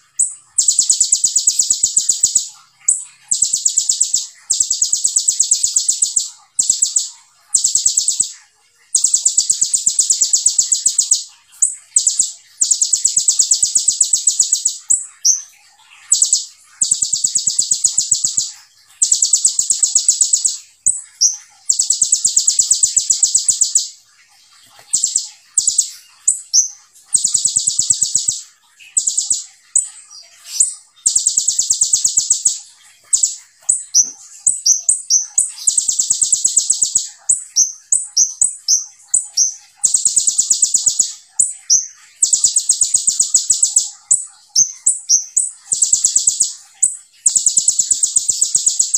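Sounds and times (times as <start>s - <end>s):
sunbird singing rapid trills: 0.0s - 48.9s.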